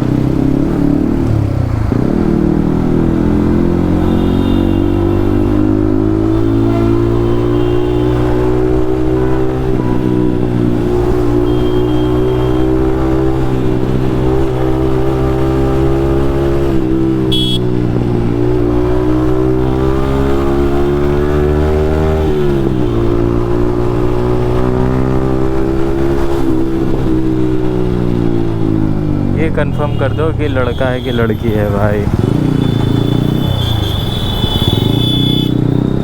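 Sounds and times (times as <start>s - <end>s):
motorcycle engine riding: 0.0s - 36.0s.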